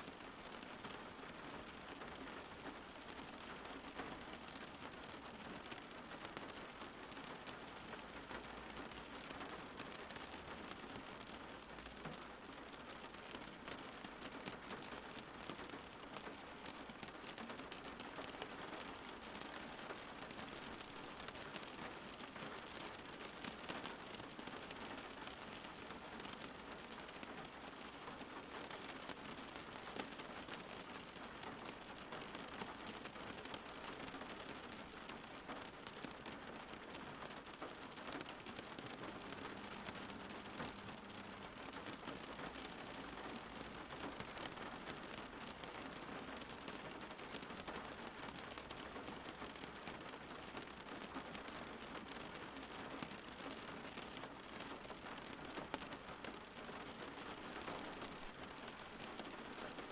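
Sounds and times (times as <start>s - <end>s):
faint raindrop ticks: 0.0s - 59.9s
steady rain hiss: 0.0s - 59.9s.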